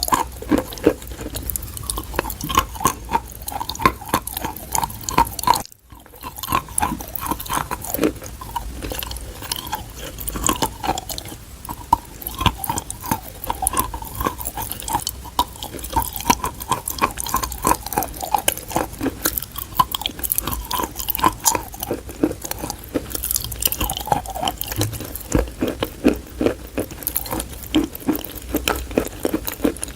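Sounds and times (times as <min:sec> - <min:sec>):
chalk crunching while chewed: 0:00.0 - 0:29.9.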